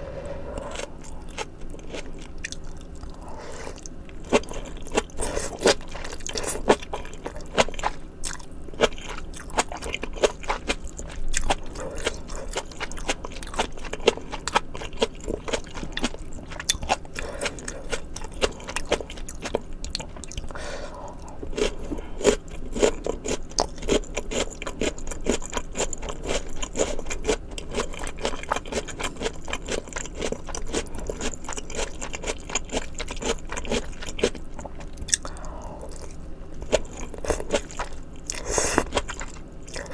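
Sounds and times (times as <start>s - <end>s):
chewing and crunching: 0.5s - 39.9s.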